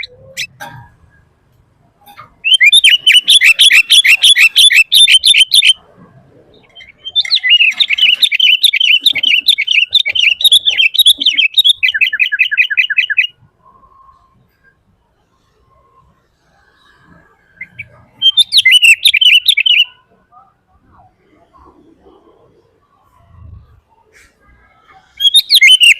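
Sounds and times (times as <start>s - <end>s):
bird singing: 0.0s - 1.3s, 2.0s - 24.1s, 24.7s - 25.9s.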